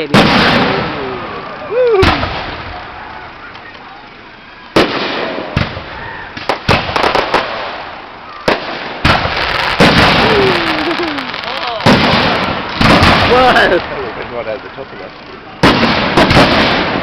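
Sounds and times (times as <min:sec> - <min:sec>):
fireworks bangs: 0:00.0 - 0:17.0
fireworks pops and crackles: 0:00.0 - 0:17.0
fireworks rumble: 0:00.0 - 0:17.0.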